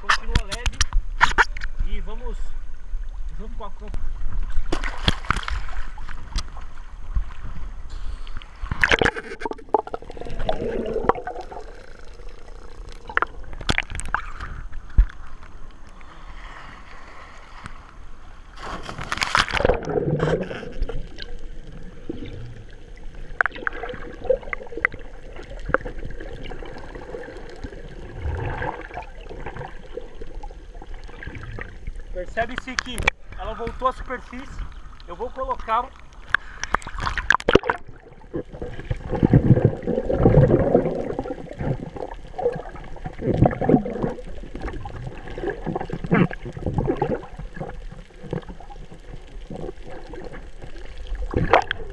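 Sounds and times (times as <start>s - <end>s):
sea water sloshing and splashing: 4.1s - 33.4s, 34.2s - 51.9s.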